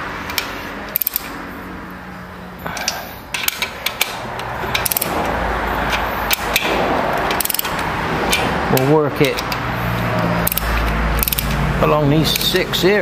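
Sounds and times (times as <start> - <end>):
ratchet clicks: 0.3 - 1.4, 2.8 - 12.8
torque wrench clicking: 0.3 - 1.4, 2.7 - 11.7, 12.3 - 12.6.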